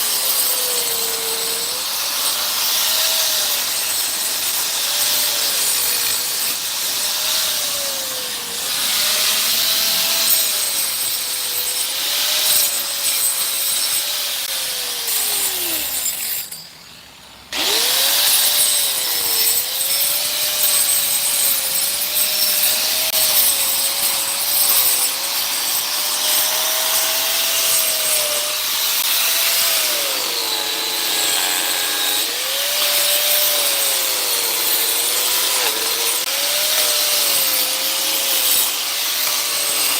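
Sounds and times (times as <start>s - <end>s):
electric power tool whining: 0.0s - 16.6s, 17.5s - 39.9s.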